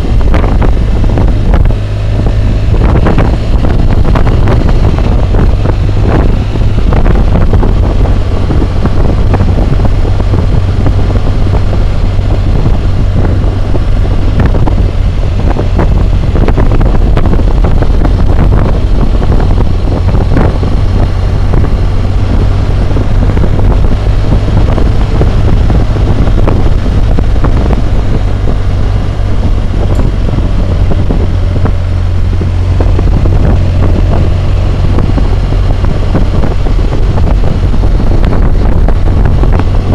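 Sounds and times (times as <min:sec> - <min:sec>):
motorcycle engine humming: 0:00.0 - 0:39.9
wind roar on microphone: 0:00.0 - 0:39.9.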